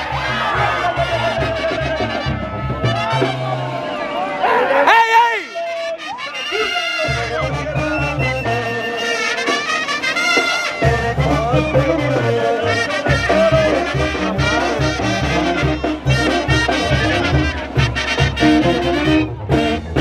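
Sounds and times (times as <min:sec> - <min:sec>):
brass band music: 0:00.0 - 0:20.0
trumpets and trombones: 0:00.0 - 0:20.0.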